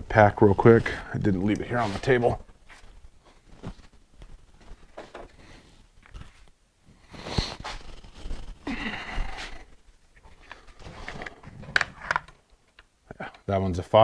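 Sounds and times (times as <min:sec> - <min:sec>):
rustling: 0:00.0 - 0:13.6.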